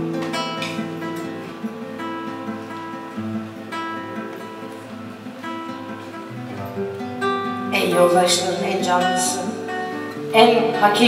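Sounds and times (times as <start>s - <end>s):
classical acoustic guitar: 0.0s - 11.0s.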